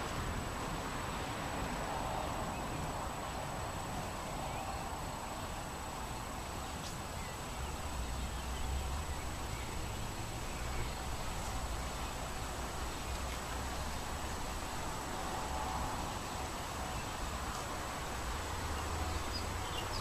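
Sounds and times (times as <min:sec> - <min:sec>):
wind rustling hiss: 0:00.0 - 0:20.0.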